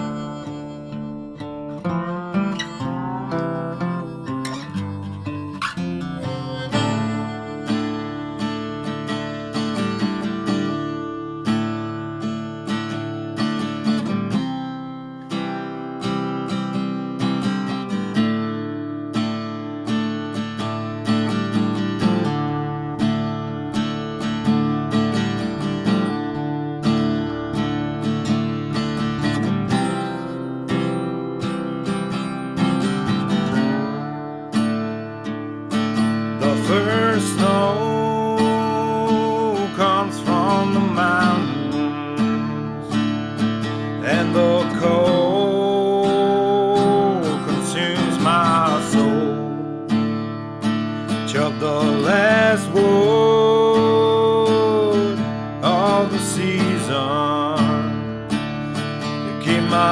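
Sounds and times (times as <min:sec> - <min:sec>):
acoustic guitar folk music: 0:00.0 - 0:59.9.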